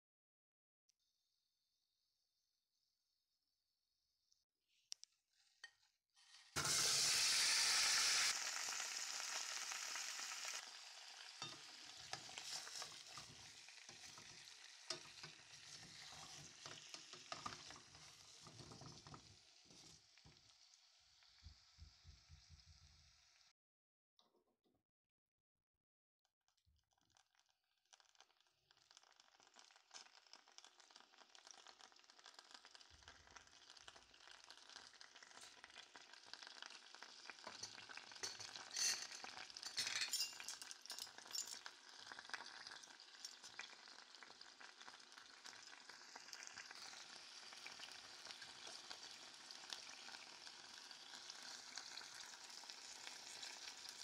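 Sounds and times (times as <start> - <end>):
sizzling and crackling in saucepan: 5.4 - 23.5, 27.9 - 54.0.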